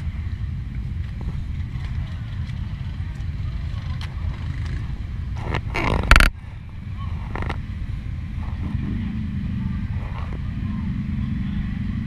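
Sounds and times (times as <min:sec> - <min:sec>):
atv engine rumbling: 0:00.0 - 0:12.0.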